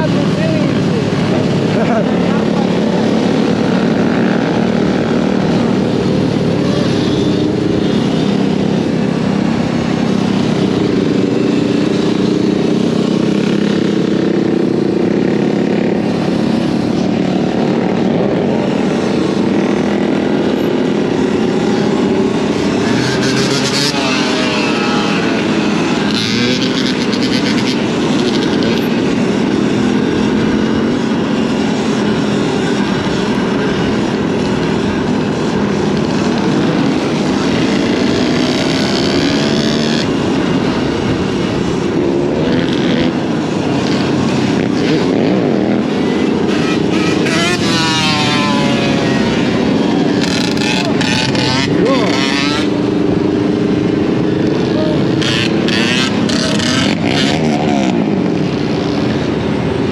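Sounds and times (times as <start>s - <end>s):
motorcycle engines running: 0.0s - 59.9s
motorcycle passing: 0.0s - 59.9s
wind rushing over microphone: 0.0s - 59.9s.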